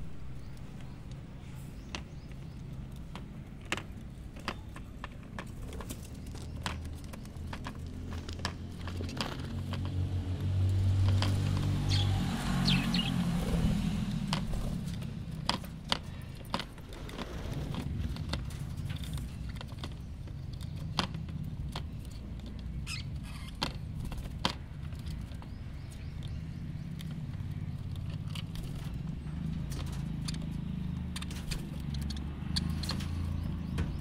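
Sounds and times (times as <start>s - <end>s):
birds pecking and tapping: 0.0s - 34.0s.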